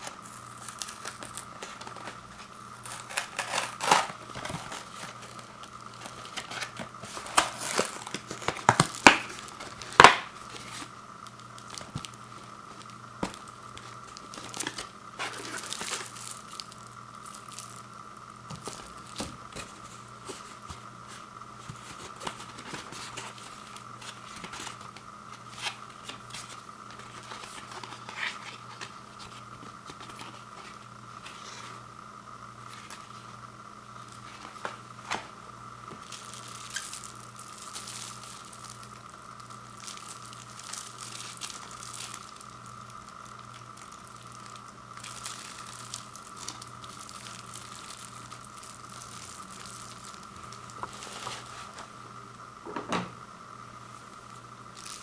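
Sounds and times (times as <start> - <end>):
packaging rustling and clicking: 0.0 - 31.6, 34.1 - 51.9
plastic wrapping crinkling: 0.0 - 31.7, 34.0 - 52.0, 54.0 - 55.0
steady hum: 0.0 - 55.0.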